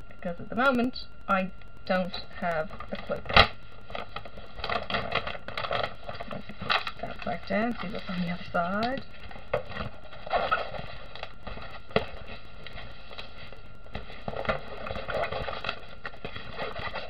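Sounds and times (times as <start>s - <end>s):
plastic film crinkling: 2.6s - 17.0s.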